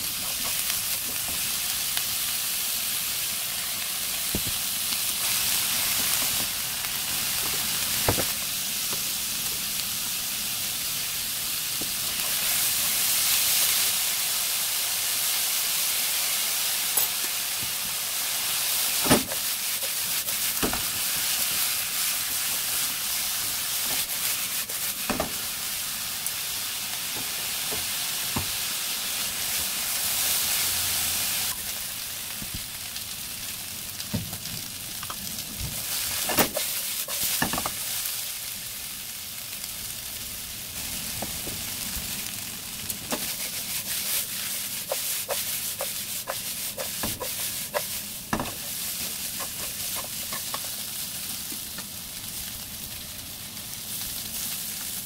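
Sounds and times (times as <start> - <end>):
vegetables sizzling in hot oil: 0.0 - 55.0.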